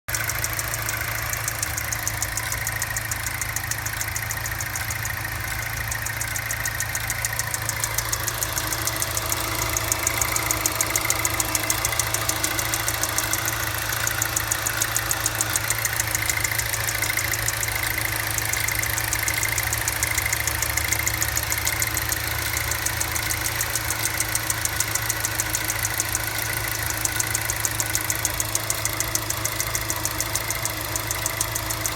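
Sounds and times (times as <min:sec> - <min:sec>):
engine idling with tapping tick: 0:00.0 - 0:31.9.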